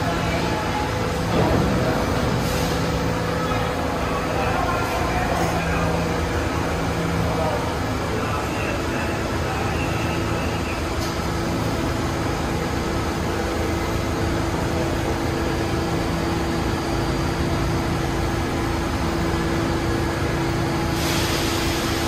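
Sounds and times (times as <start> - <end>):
constant low hum: 0.0 - 22.0
subway train rumble: 0.0 - 22.0.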